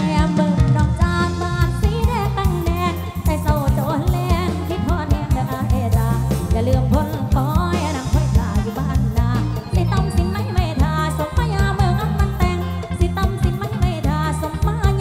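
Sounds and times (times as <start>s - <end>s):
band with bass and drums: 0.0s - 15.0s
woman singing with vibrato: 0.0s - 15.0s.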